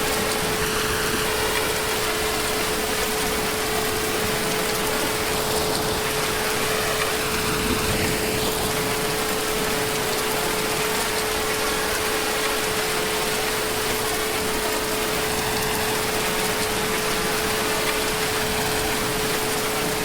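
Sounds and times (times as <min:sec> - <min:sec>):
constant hum: 0:00.0 - 0:20.0
heavy rain falling: 0:00.0 - 0:20.0.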